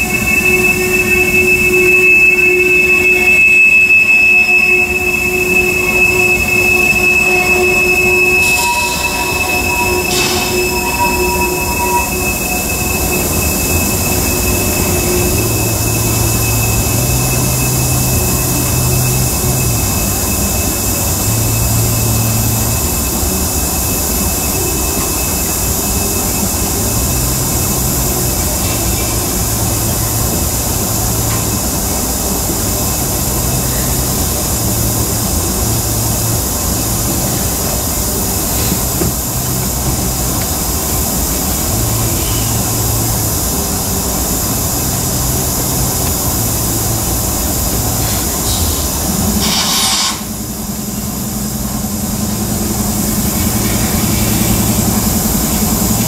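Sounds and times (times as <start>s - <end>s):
high wheel squeal: 0.0s - 56.0s
train wheels rumbling on rails: 0.0s - 56.0s.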